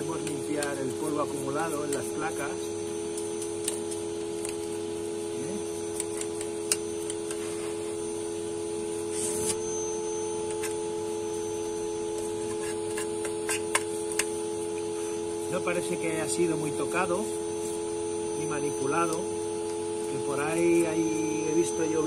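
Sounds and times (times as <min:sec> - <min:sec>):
vacuum cleaner whine: 0:00.0 - 0:22.0.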